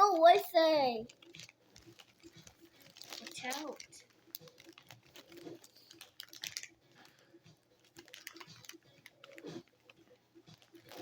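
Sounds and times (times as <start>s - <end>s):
packet rustling: 0.0s - 11.0s
plastic toys clicking and tapping: 1.0s - 11.0s.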